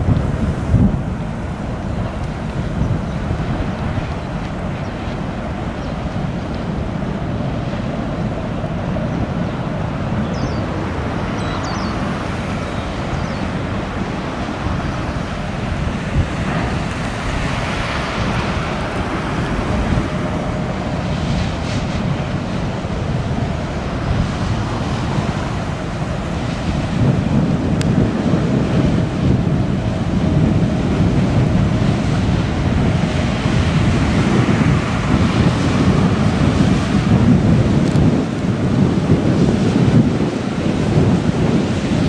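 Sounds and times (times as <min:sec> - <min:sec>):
sea water rushing: 0:00.0 - 0:42.0
wind rumbling on microphone: 0:00.0 - 0:42.0.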